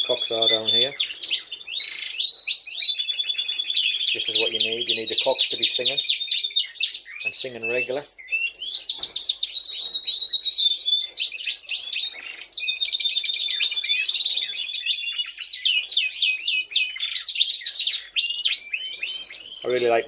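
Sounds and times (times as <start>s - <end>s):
canaries singing trills and warbles: 0.0s - 20.0s.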